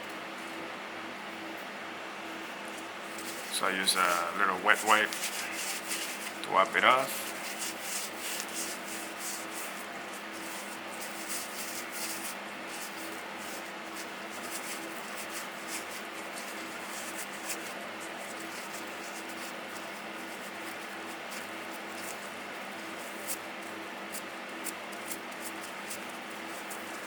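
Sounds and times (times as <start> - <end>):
wet wipe rubbing on metal: 3.1 - 27.0.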